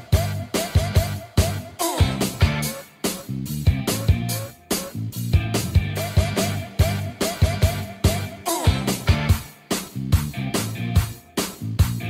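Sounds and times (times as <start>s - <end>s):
bass line: 0.0s - 12.0s
steady drum beat: 0.0s - 12.0s.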